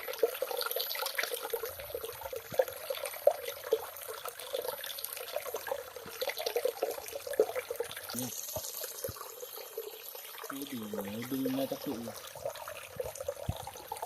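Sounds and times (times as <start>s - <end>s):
stream gurgling and trickling: 0.0s - 14.0s.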